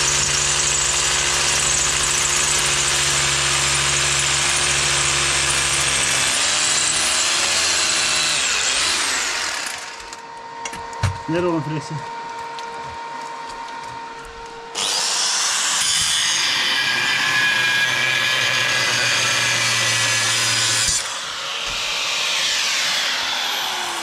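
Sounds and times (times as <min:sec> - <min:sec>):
angle grinder running: 0:00.0 - 0:10.3, 0:13.2 - 0:24.0.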